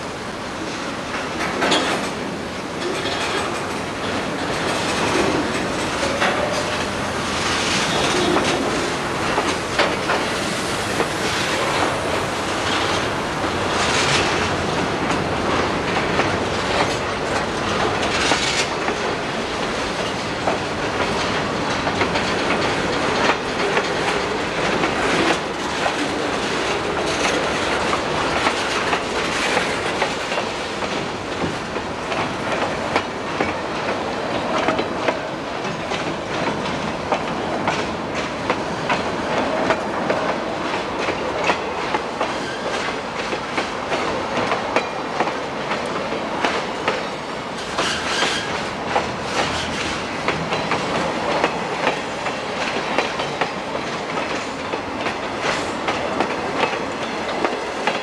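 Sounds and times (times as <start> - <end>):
freight train wheels rolling on rails: 0.0 - 58.0
wheel clacks on rail joints: 1.1 - 58.0.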